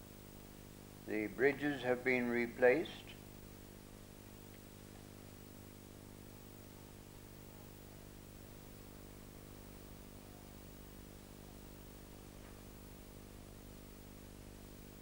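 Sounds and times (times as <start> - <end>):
faint electrical hum with hiss: 0.0 - 15.0.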